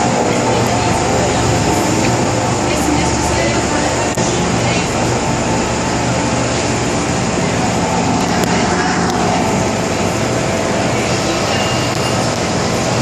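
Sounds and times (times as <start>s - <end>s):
metro train running: 0.0s - 13.0s.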